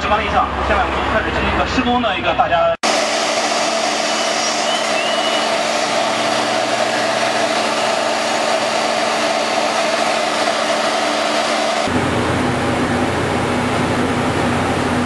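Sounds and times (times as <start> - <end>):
road machine mechanical drone: 0.0 - 15.0.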